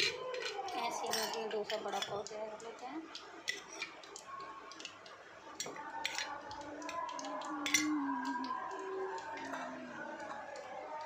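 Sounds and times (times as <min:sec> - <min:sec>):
deep-frying in hot oil: 0:00.0 - 0:11.0
oil popping and crackling: 0:00.0 - 0:11.0.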